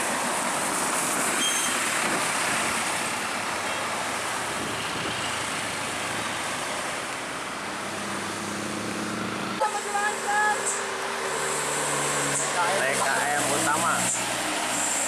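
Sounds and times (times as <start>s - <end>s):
bus passing by: 0.0s - 15.0s.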